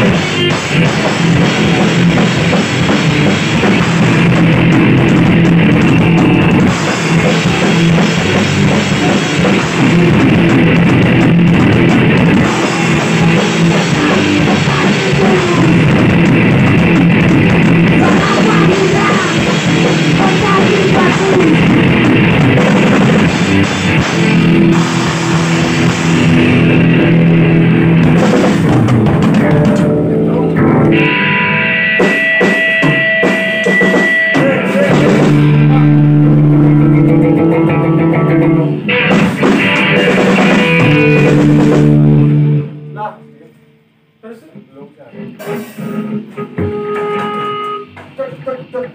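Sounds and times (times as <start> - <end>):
drum hits: 0.0 - 31.3, 31.9 - 42.7
punk rock band playing: 0.0 - 44.0, 45.2 - 48.9.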